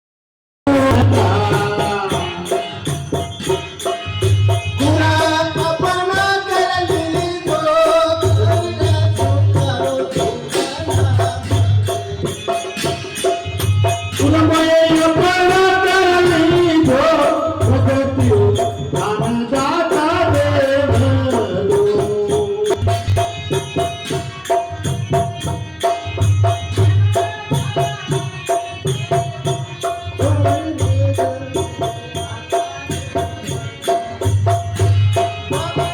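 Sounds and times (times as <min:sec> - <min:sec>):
jingling percussion: 0:00.7 - 0:35.9
person singing devotional song: 0:00.7 - 0:35.9
hand drum beat: 0:00.9 - 0:17.0, 0:17.6 - 0:35.9.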